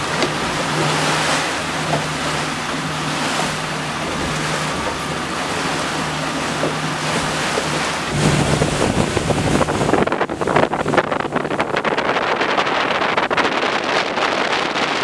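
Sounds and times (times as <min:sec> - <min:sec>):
boat engine hum: 0:00.0 - 0:15.0
water rushing: 0:00.0 - 0:15.0
wind: 0:00.0 - 0:15.0.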